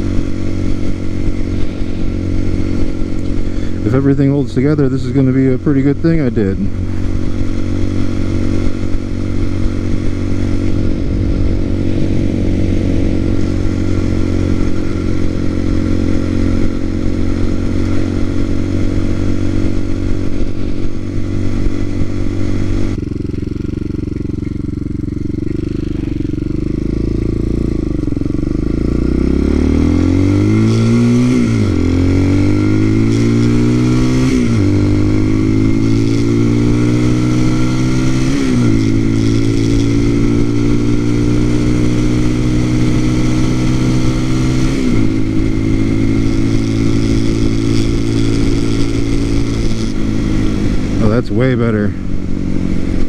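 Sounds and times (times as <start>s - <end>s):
motorcycle engine: 0.0s - 53.0s
wind and road noise: 0.0s - 53.0s.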